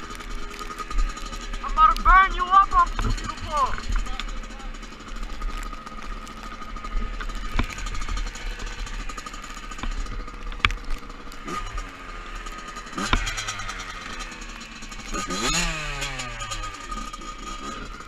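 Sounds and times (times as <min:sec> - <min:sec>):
dirt bike engine idling: 0:00.0 - 0:18.0
sharp clicks: 0:00.0 - 0:18.0.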